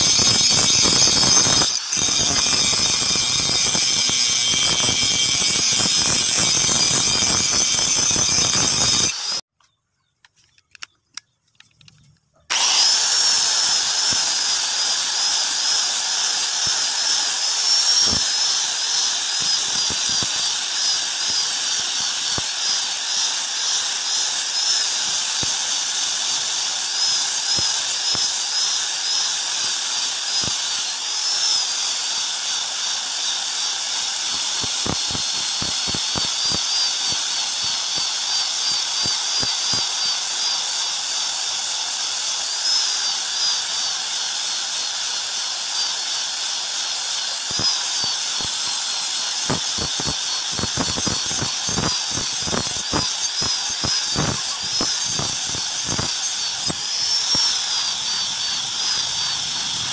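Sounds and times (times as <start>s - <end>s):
angle grinder grinding steel: 0.0s - 9.5s, 12.4s - 59.9s.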